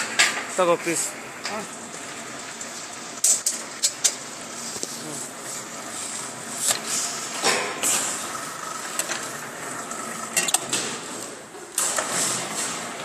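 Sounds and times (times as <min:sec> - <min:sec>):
roll forming machine running: 0:00.0 - 0:13.0.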